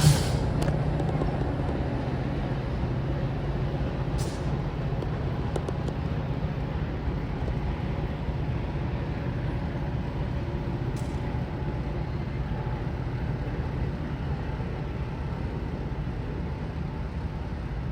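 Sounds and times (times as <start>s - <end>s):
train rumbling past: 0.0s - 17.9s.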